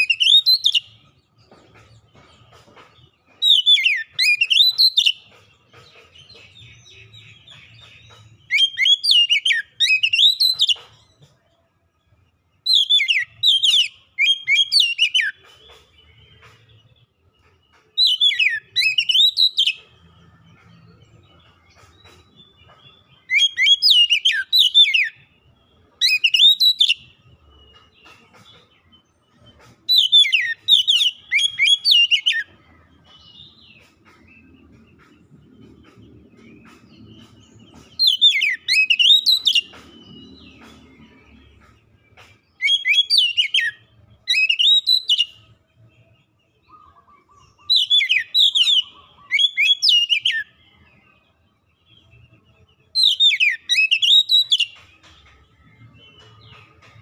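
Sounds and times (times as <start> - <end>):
bird singing whistled notes: 0.0 - 11.4, 12.5 - 57.0.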